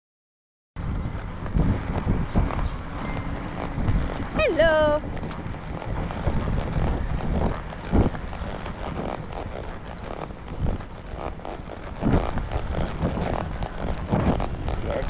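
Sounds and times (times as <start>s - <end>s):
wind rumbling on microphone: 0.8s - 15.0s.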